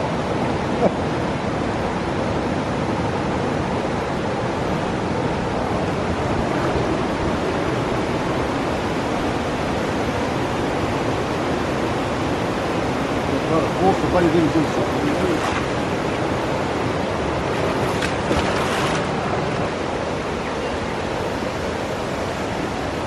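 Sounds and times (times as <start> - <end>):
fast-flowing river rushing: 0.0 - 23.0.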